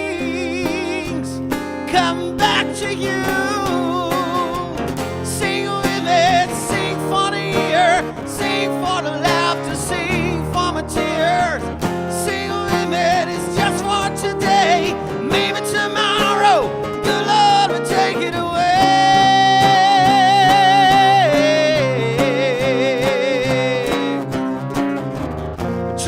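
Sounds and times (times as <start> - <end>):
person singing: 0.0 - 24.4
band playing guitar music: 0.0 - 26.0.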